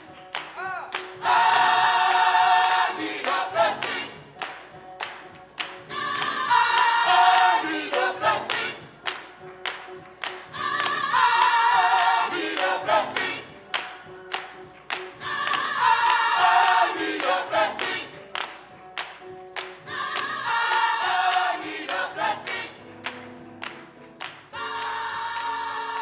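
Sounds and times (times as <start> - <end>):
choir singing gospel song: 0.0 - 26.0
percussive beat: 0.0 - 26.0.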